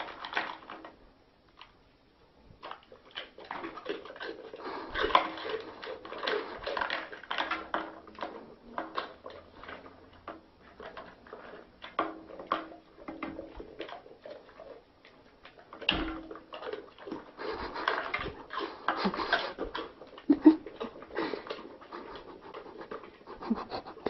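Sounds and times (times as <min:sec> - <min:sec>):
dog chewing and smacking: 0:00.0 - 0:01.8, 0:02.5 - 0:24.0.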